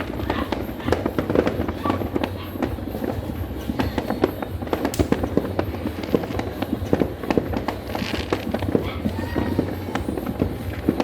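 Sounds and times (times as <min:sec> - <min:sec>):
firecrackers and fireworks bangs: 0:00.0 - 0:11.0.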